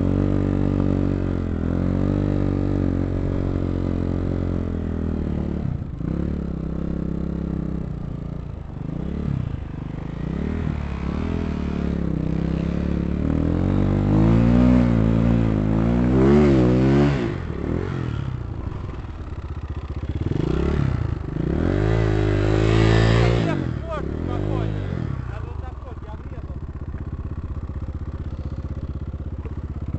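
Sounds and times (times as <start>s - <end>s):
dirt bike engine revving: 0.0s - 8.0s, 8.8s - 29.9s.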